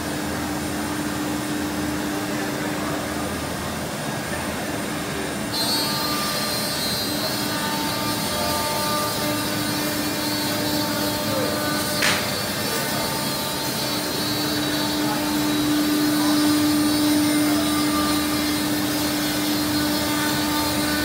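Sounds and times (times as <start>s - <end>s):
high machine whine: 0.0s - 21.0s
router machine hum: 0.0s - 21.0s.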